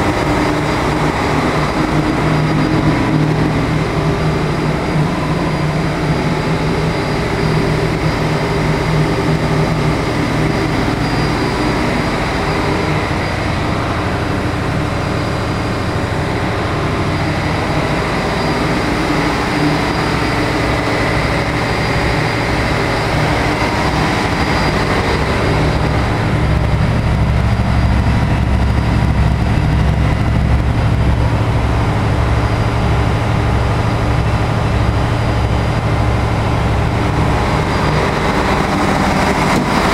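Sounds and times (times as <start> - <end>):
engine-room machinery drone: 0.0 - 39.9.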